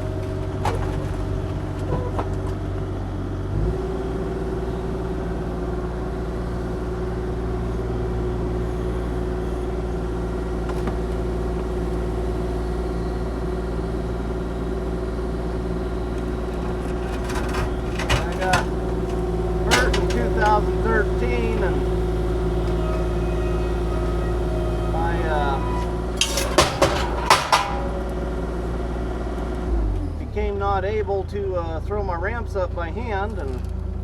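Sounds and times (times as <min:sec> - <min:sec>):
engine running: 0:00.0 - 0:34.0.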